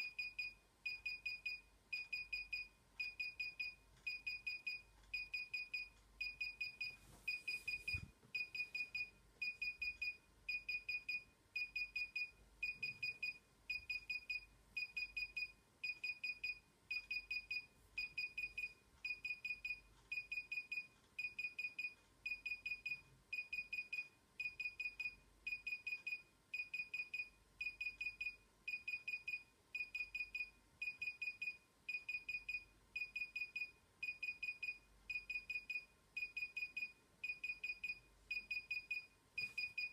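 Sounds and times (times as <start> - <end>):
rapid high-pitched beeps: 0.0 - 39.9.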